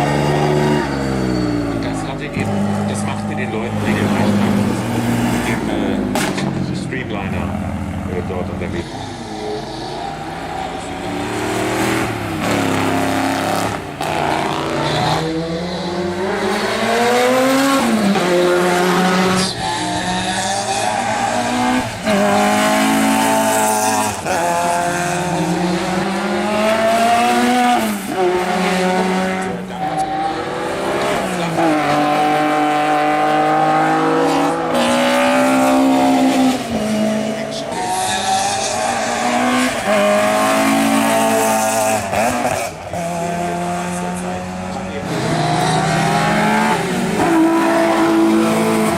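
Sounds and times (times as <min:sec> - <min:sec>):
racing car engines accelerating: 0:00.0 - 0:48.9.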